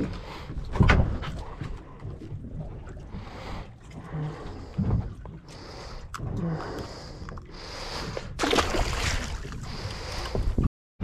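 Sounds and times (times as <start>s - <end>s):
water noise: 0.0s - 10.7s.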